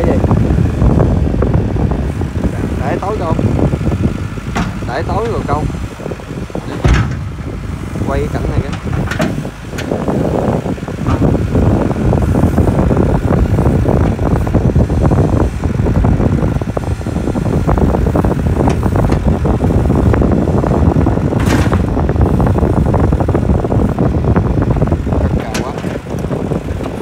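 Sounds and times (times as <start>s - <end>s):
excavator diesel engine running hard: 0.0s - 27.0s.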